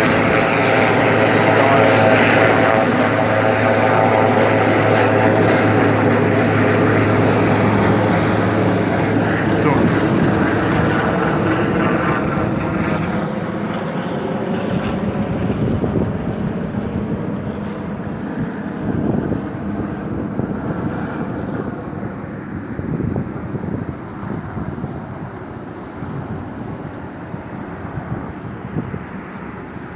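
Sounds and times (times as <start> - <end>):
helicopter rotor and engine: 0.0 - 29.9.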